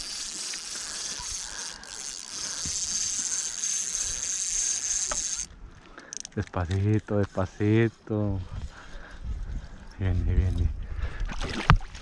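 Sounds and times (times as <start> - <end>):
fishing reel buzzing: 0.0 - 10.1.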